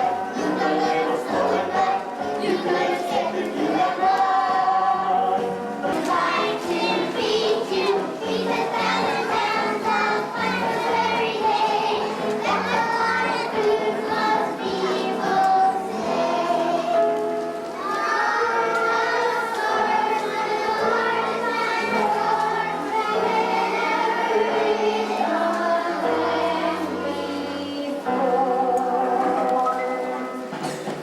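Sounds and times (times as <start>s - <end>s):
group singing: 0.0s - 17.2s, 17.8s - 30.8s
instrumental accompaniment: 0.0s - 31.0s.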